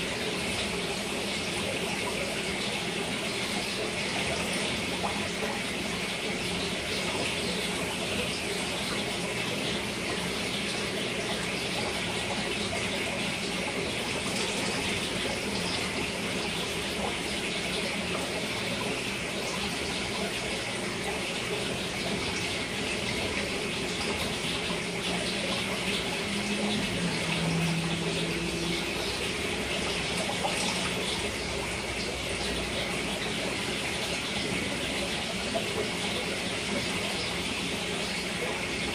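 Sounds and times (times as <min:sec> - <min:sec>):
aquarium filter water running: 0:00.0 - 0:38.9.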